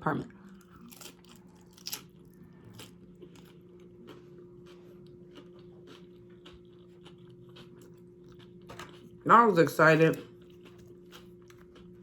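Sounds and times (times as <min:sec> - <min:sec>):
chewing crunchy food: 0:00.4 - 0:09.3, 0:10.1 - 0:12.0.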